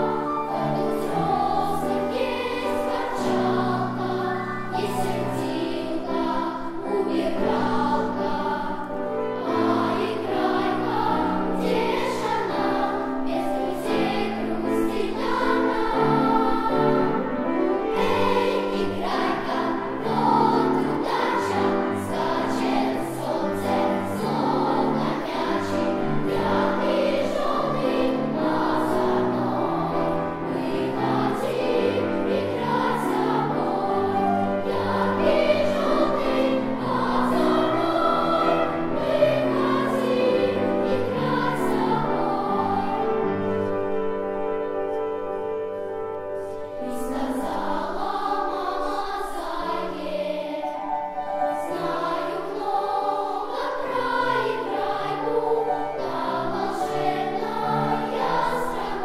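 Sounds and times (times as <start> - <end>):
girls choir singing: 0.0 - 44.7, 45.3 - 59.0.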